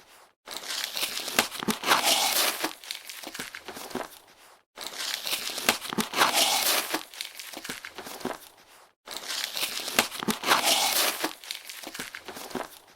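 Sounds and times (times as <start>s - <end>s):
cardboard rustling and crinkling: 0.0s - 12.9s
packing tape tearing: 0.5s - 4.1s, 4.8s - 8.5s, 9.1s - 12.9s.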